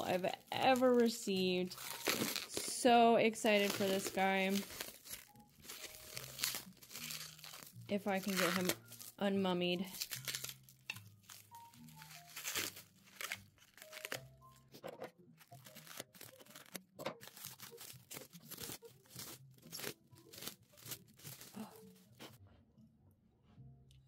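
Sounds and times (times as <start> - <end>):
plastic wrap crinkling and tearing: 0.0 - 14.6, 15.4 - 22.4
soft background music: 0.0 - 24.0.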